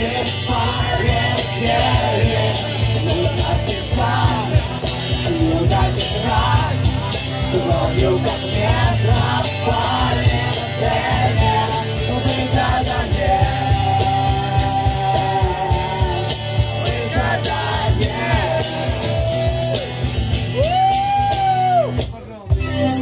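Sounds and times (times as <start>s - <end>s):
voices singing: 0.0s - 21.3s
live rock band playing: 0.0s - 23.0s.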